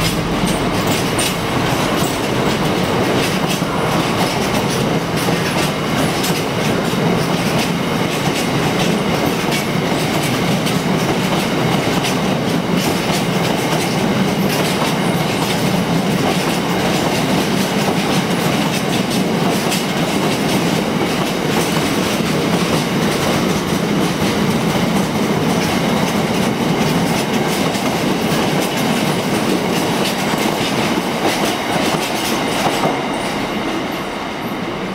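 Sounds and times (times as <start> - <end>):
train wheels clattering over rail joints: 0.0 - 33.4.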